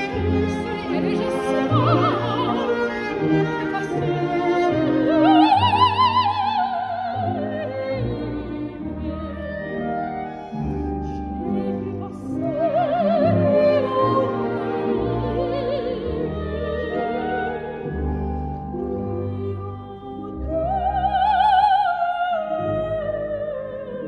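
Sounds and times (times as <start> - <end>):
operatic soprano singing: 0.0 - 10.2, 10.9 - 24.0
symphony orchestra: 0.0 - 24.0.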